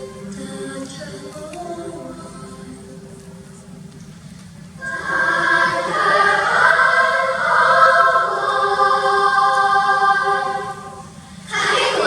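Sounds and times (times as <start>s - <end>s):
children's choir singing: 0.0s - 3.0s, 4.8s - 12.0s.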